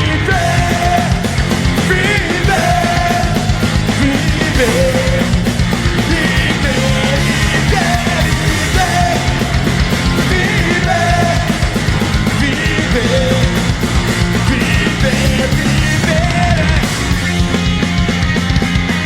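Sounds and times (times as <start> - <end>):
distorted guitars: 0.0 - 19.0
driving drums: 0.0 - 19.0
punk rock music: 0.0 - 19.0.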